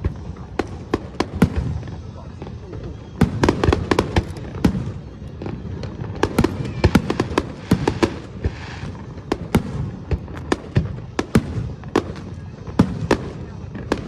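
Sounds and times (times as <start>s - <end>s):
crackling hiss: 0.0s - 14.0s
fireworks exploding: 0.0s - 14.0s.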